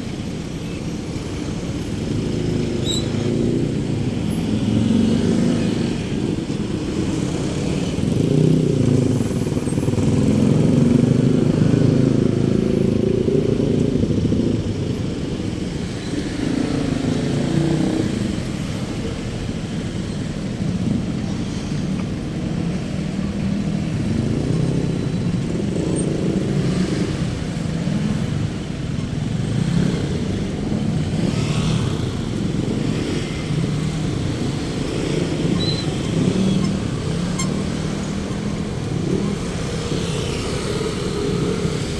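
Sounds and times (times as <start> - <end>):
motorcycles and cars passing: 0.0 - 41.9.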